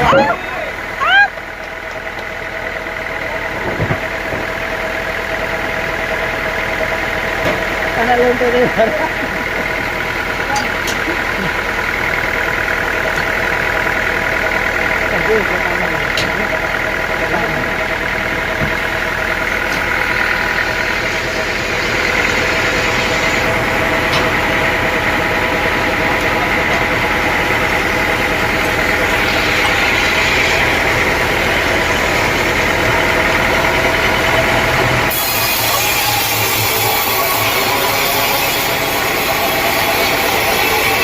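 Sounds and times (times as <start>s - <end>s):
sawmill machinery drone: 0.0s - 41.0s.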